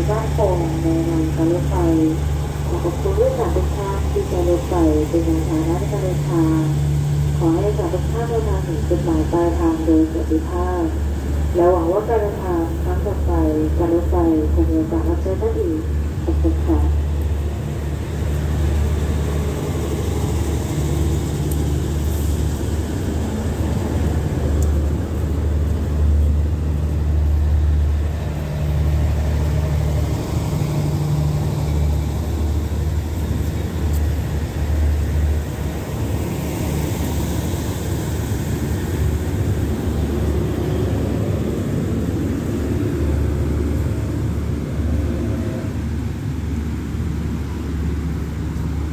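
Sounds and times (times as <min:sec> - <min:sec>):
passenger train rumbling past: 0:00.0 - 0:48.9.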